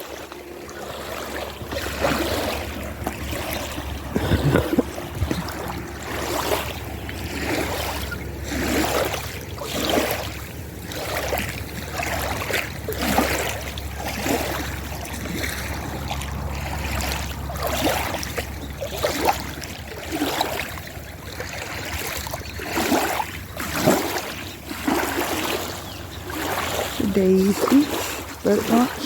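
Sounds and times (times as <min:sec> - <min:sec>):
low steady rumble: 0:00.0 - 0:29.0
small waves lapping on rocks: 0:00.0 - 0:29.0.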